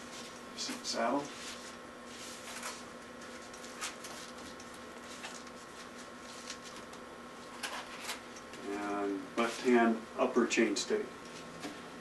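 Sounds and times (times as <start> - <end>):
steady faint hum: 0.0 - 12.0.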